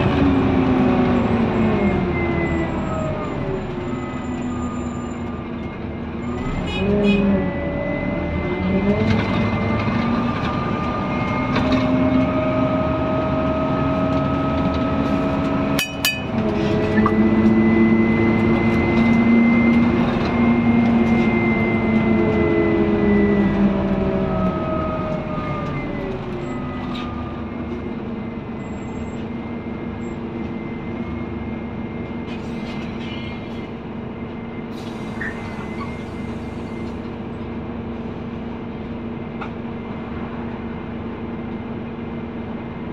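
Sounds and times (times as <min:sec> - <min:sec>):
bus diesel engine: 0:00.0 - 0:42.9.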